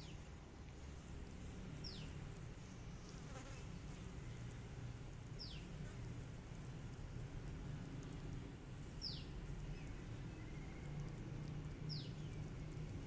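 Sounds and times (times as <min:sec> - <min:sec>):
low steady buzz: 0:00.0 - 0:13.0.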